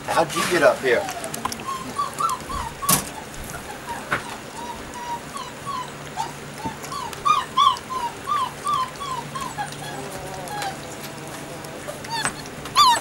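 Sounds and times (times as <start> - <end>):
dogs whimpering: 0.4 - 13.0.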